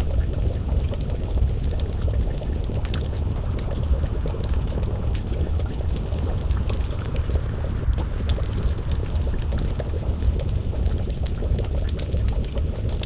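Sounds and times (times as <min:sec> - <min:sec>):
low rumble: 0:00.0 - 0:13.0
pot of stew bubbling: 0:00.0 - 0:13.0
wood fire crackling: 0:00.0 - 0:13.0.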